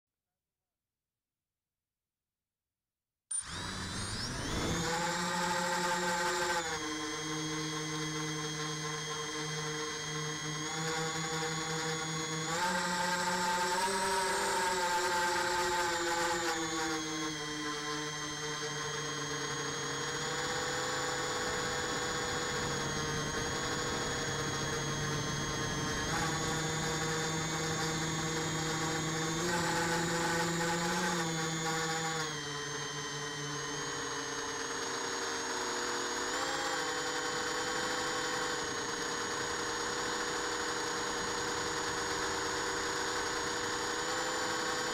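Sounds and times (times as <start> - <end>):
drone propellers whining: 3.3 - 44.9.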